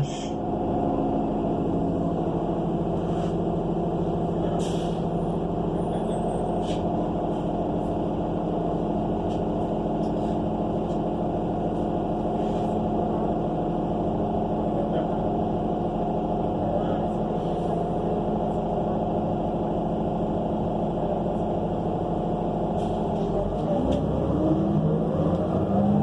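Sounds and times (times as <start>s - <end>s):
bus engine running: 0.0s - 26.0s.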